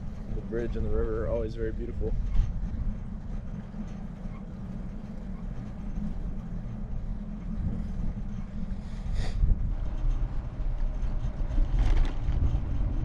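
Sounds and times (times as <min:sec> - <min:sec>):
bicycle road noise: 0:00.0 - 0:13.0
wind buffeting microphone: 0:00.0 - 0:13.0.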